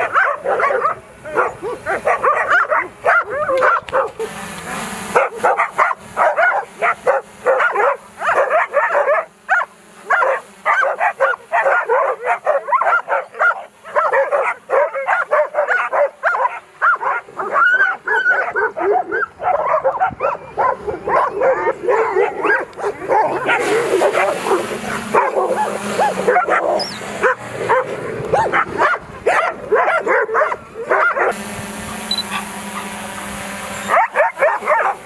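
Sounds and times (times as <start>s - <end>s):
dogs barking and yelping: 0.0s - 35.0s.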